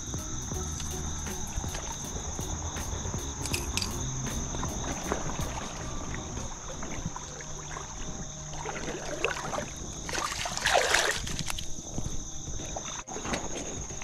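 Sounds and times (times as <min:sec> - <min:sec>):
water splashing and sloshing: 0:00.2 - 0:14.0.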